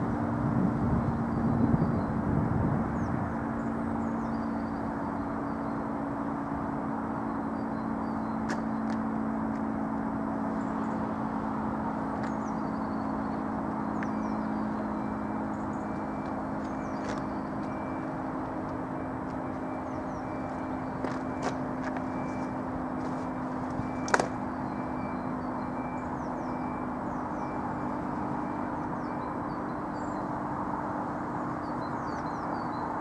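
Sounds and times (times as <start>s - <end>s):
warning siren steady low note: 0.0s - 33.0s.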